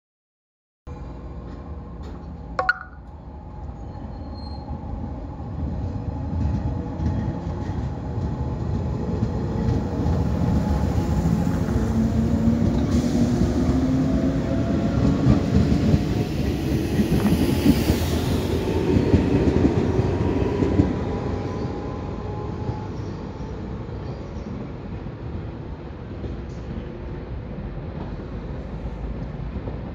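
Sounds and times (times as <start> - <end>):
train rumble and wheel clatter: 0.9 - 2.6, 3.2 - 29.9.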